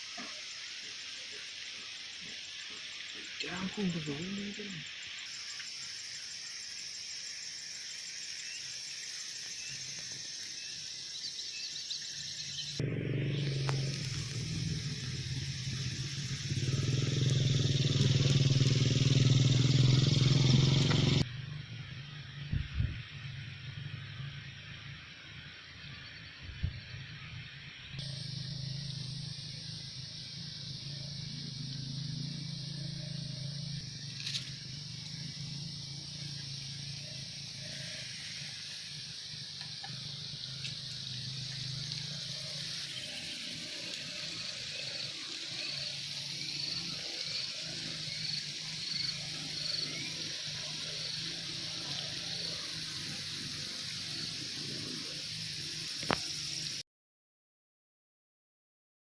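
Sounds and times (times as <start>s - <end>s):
insects droning: 0.0s - 56.8s.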